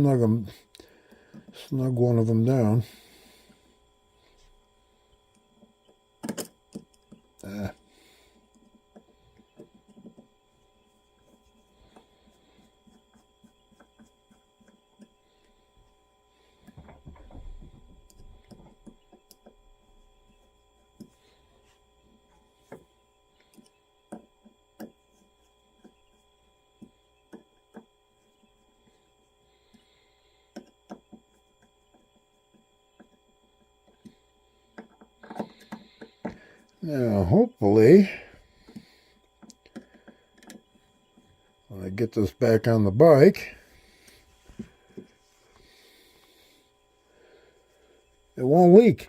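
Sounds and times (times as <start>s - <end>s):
steady electrical hum: 0.0s - 49.0s.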